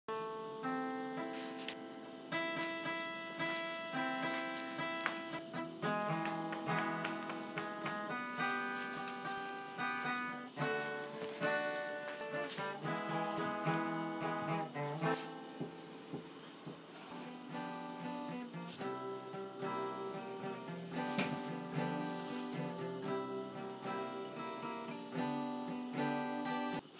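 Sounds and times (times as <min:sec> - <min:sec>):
acoustic guitar strumming chords: 0:00.1 - 0:26.9.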